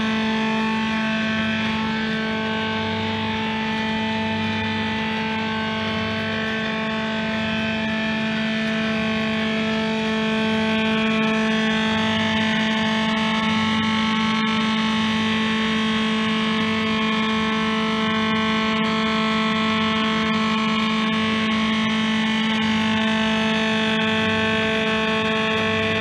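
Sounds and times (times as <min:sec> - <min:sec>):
electronic motorcycle engine buzz: 0:00.0 - 0:26.0.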